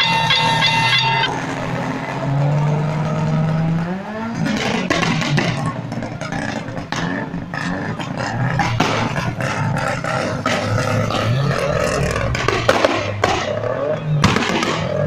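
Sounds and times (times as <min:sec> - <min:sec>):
car engine revving: 0:00.0 - 0:15.0
engine crackles: 0:00.0 - 0:15.0.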